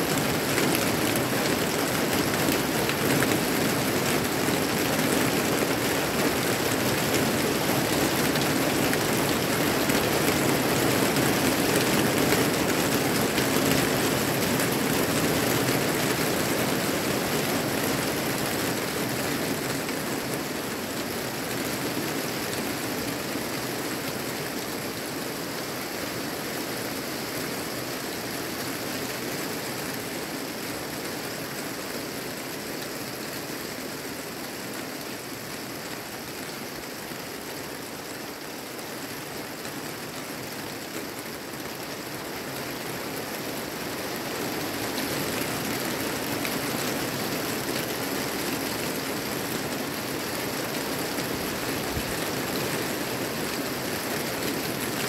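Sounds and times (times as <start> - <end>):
steady rain on trees: 0.0 - 55.0.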